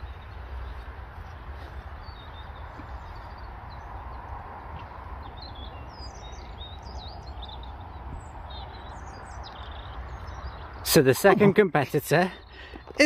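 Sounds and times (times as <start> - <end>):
songbirds twittering: 0.0 - 13.0.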